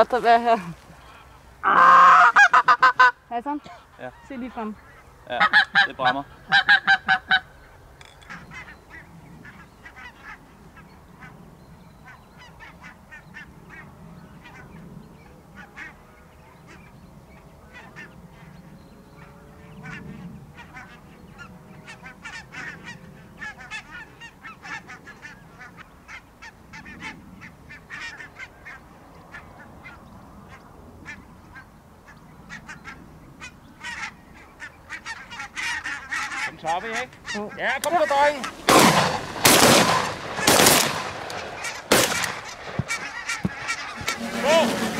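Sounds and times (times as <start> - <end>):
geese honking: 0.1 - 11.4, 15.5 - 16.9, 17.6 - 44.9.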